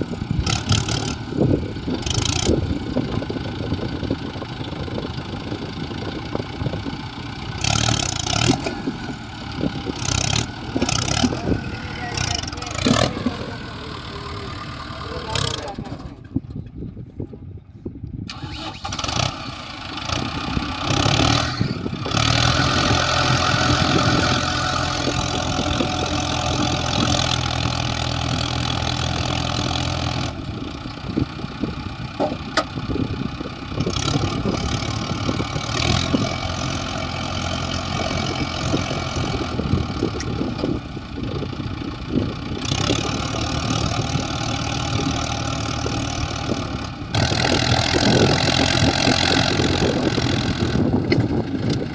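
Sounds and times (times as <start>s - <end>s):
heavy diesel engine running: 0.0s - 17.4s, 18.3s - 51.9s.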